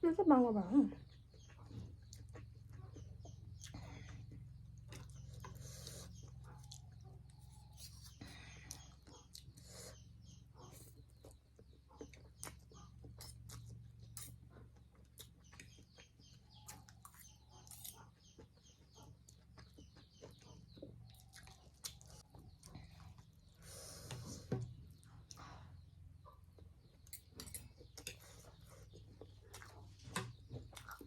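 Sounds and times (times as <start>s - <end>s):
person chewing: 1.4s - 10.0s, 10.7s - 24.6s, 26.5s - 31.0s.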